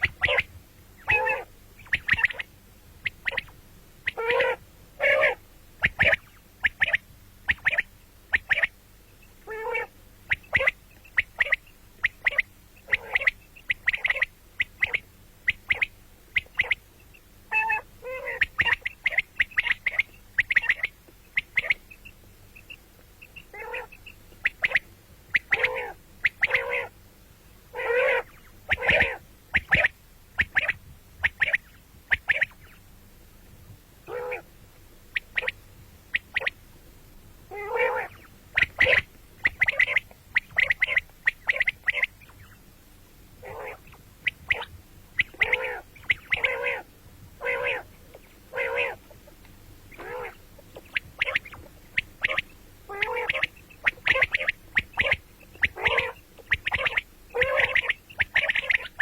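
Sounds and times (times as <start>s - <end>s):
quail calling: 0.0s - 8.8s, 9.4s - 27.0s, 27.7s - 32.8s, 34.0s - 34.5s, 35.1s - 36.6s, 37.5s - 42.6s, 43.4s - 59.0s.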